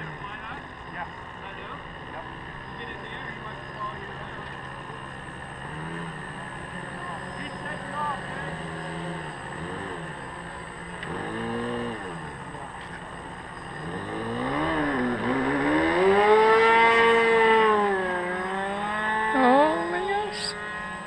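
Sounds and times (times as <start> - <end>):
model airplane engine running: 0.0 - 21.0.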